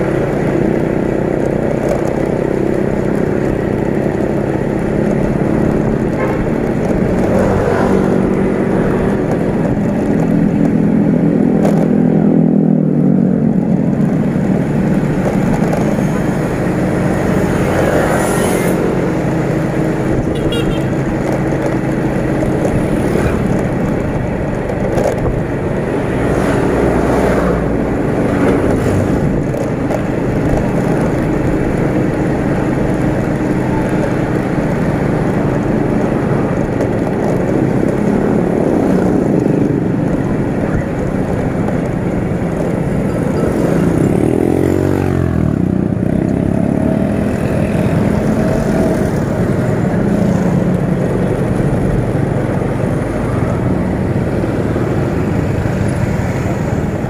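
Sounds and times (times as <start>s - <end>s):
motorcycle engine running: 0.0s - 57.0s
passing motorcycles and trucks: 0.0s - 57.0s
road and wind noise: 0.0s - 57.0s.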